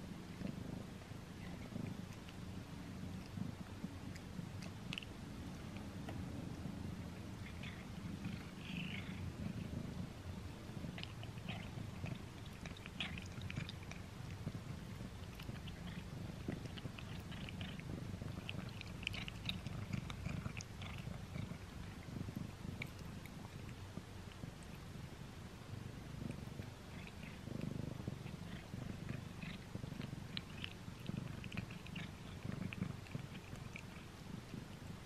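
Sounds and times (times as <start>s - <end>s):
cat purring: 0.0s - 35.0s
cat chewing clicks: 1.4s - 9.6s, 10.9s - 25.0s, 26.1s - 34.9s.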